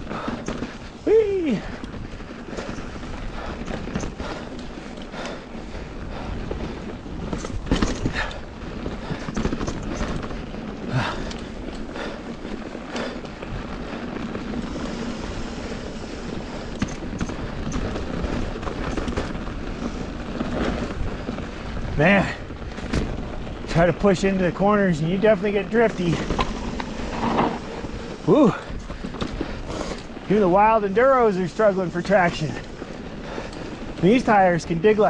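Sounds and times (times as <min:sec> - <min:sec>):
bike rattling over rocks: 0:00.0 - 0:35.0
tyres hissing over loose dirt: 0:00.0 - 0:35.0.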